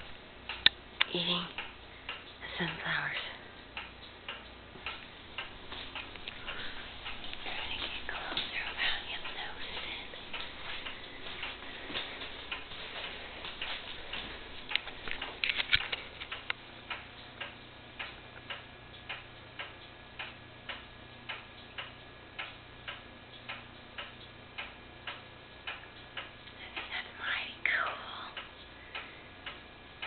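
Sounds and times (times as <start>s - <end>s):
steady ticking: 0.0s - 30.0s.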